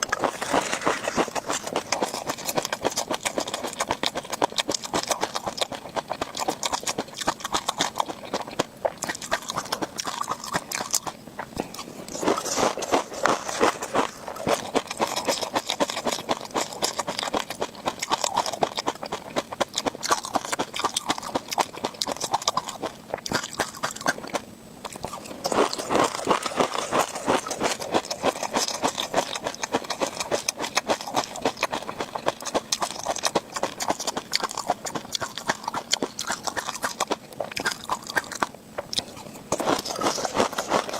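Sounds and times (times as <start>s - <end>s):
chewing crunchy fish roe: 0.0s - 40.9s.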